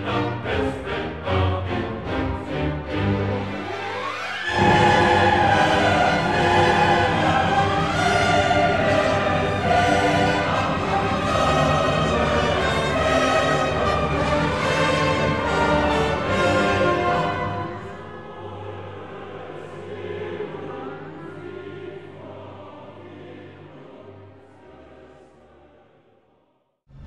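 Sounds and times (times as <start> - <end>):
orchestral music with choir: 0.0 - 27.0.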